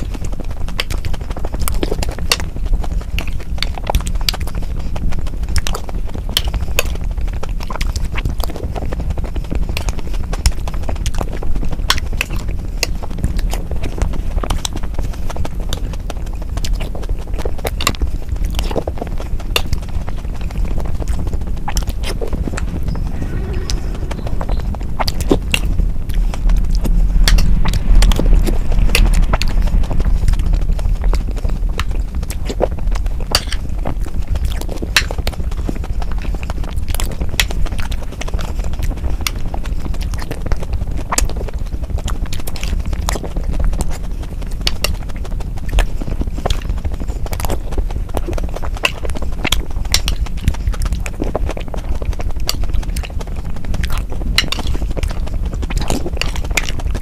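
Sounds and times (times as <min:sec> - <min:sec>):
wet chewing and smacking: 0:00.0 - 0:57.0.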